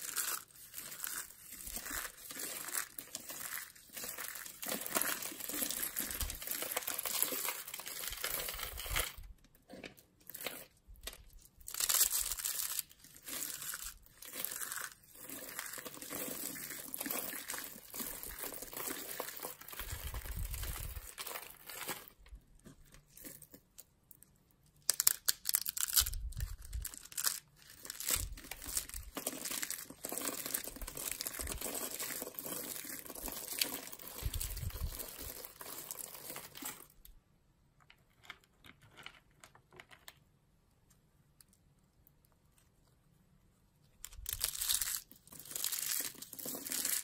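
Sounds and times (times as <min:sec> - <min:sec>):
dry soap crackling: 0:00.0 - 0:37.2, 0:40.8 - 0:47.0.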